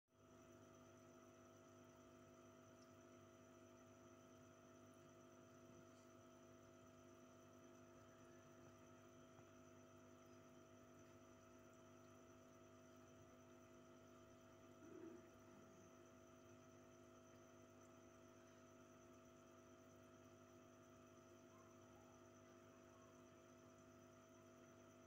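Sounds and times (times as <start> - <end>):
aquarium pump hum: 0.1 - 25.0.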